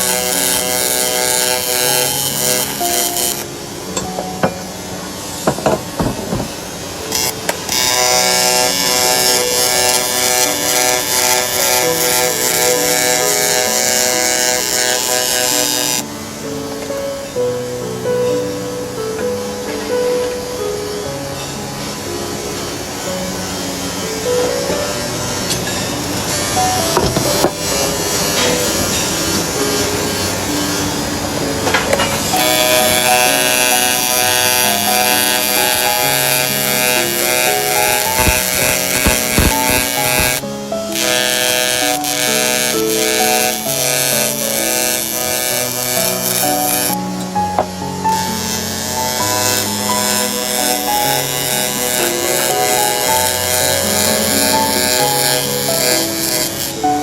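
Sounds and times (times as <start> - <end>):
background music with held notes: 0.0 - 57.0
buzzing hiss of metalwork: 0.0 - 57.0.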